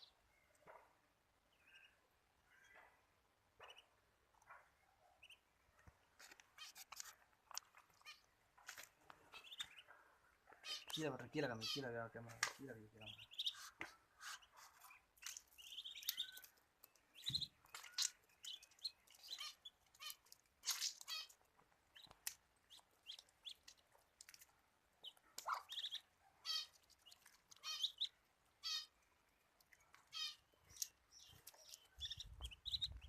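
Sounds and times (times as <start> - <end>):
ducklings peeping: 3.6 - 4.4, 5.2 - 5.5, 6.2 - 12.0, 12.6 - 33.0.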